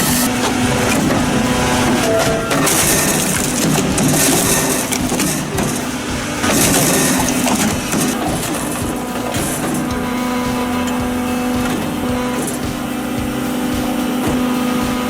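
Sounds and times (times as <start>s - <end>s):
high hiss bursts: 0.0s - 15.0s
machine crushing and grinding logs: 0.0s - 15.0s.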